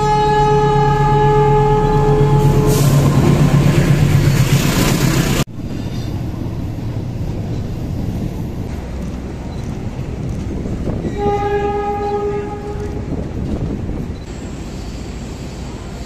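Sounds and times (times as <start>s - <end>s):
diesel locomotive engine drone: 0.0s - 16.0s
passenger coaches rumbling past: 0.0s - 16.0s.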